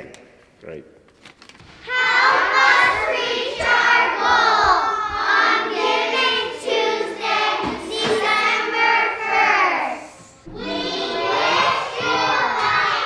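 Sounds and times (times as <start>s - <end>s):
children singing in unison: 1.9s - 13.0s.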